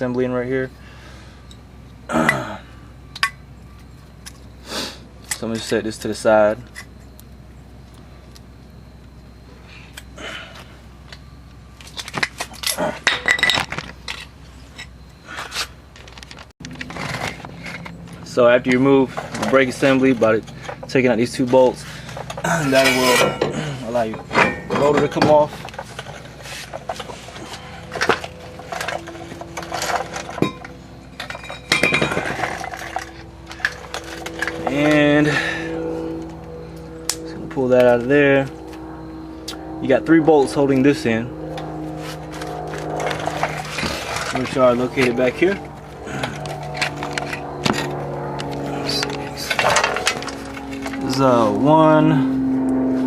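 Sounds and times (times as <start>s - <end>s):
metal tools clinking and scraping: 5.2s - 7.2s, 9.7s - 51.8s.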